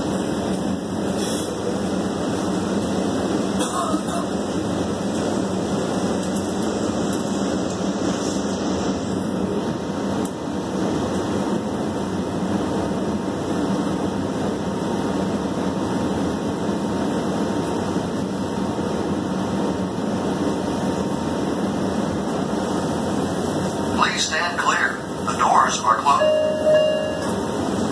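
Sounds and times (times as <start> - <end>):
subway car mechanical hum: 0.0 - 27.9.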